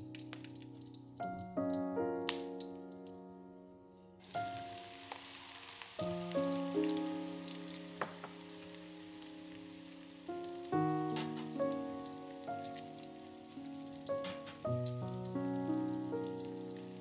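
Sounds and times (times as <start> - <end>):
food sizzling in hot oil: 0.0 - 3.2, 4.2 - 17.0
background music: 0.1 - 3.6, 6.0 - 17.0.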